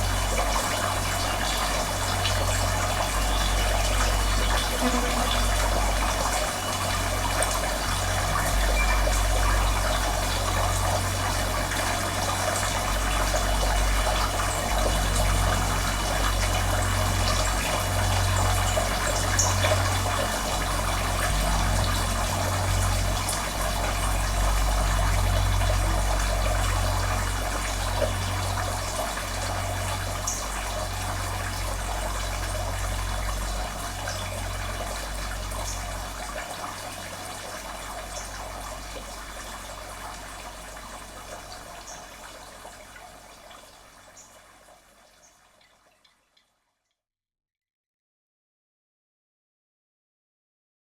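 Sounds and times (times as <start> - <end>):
running water: 0.0 - 46.5.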